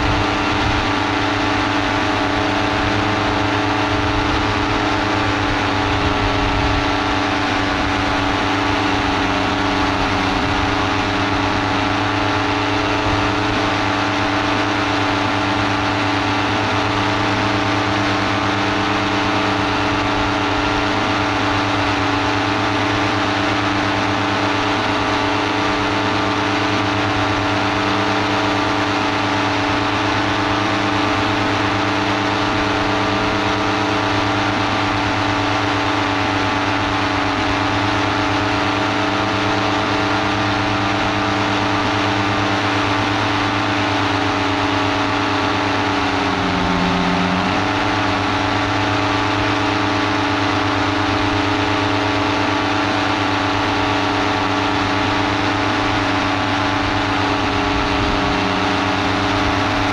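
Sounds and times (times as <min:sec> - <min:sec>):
paramotor engine propeller drone: 0:00.0 - 0:59.9.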